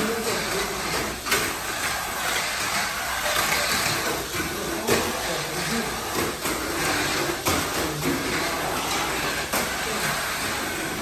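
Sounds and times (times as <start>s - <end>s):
toy race cars rattling hiss: 0.0s - 11.0s.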